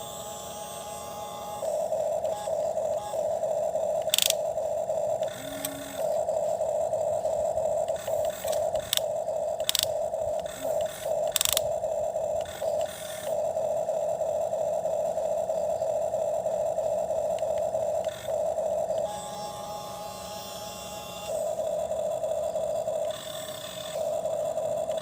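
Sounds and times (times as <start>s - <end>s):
toy electric motor whining: 0.0s - 13.8s, 17.2s - 25.0s.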